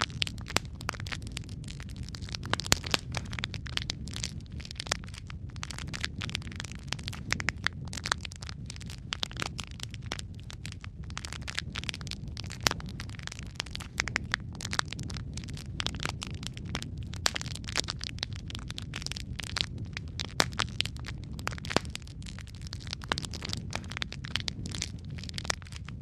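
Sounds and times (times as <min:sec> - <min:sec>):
low rumble of flames: 0:00.0 - 0:26.0
wood fire crackling: 0:00.0 - 0:26.0.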